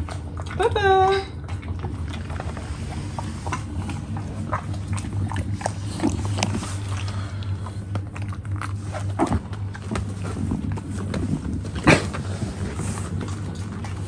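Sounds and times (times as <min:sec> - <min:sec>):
dog crunching apple: 0:00.0 - 0:14.0
steady low hum: 0:00.0 - 0:14.0.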